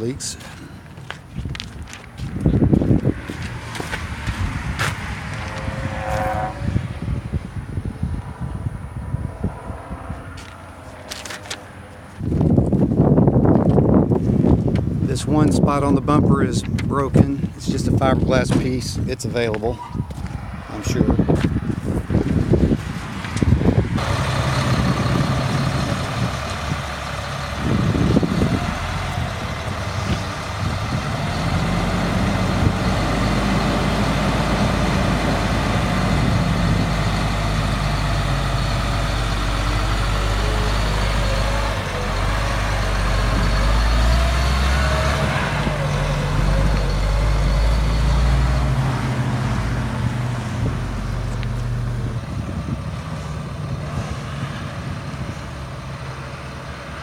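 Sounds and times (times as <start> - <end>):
diesel truck engine running: 0.0 - 18.8, 19.4 - 57.0.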